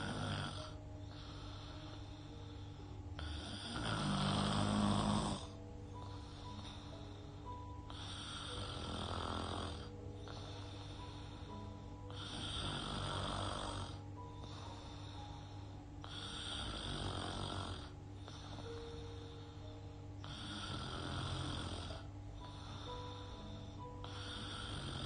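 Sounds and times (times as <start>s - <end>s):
girl snoring: 0.0s - 25.0s
soft background music: 0.0s - 25.0s.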